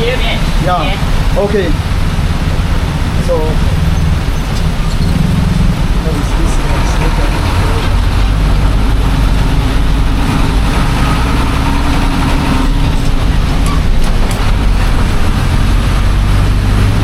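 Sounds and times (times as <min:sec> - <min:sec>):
bus engine low hum: 0:00.0 - 0:17.0.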